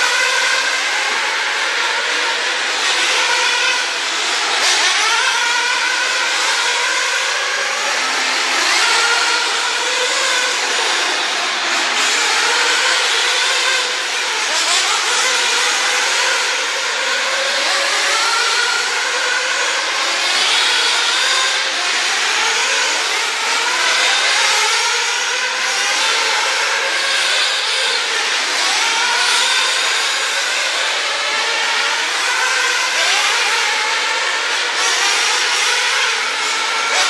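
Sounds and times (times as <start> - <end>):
radio-controlled car motors: 0.0 - 37.0.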